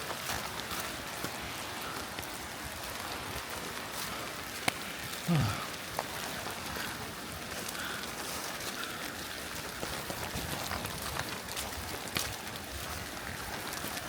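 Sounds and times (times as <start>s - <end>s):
heavy rain falling: 0.0s - 14.0s
raindrops clicking close by: 0.0s - 14.0s.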